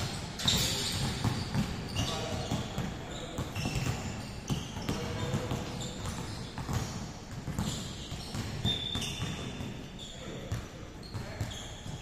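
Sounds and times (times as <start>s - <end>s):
basketballs bouncing: 0.0s - 12.0s
sneakers squeaking on floor: 0.0s - 12.0s.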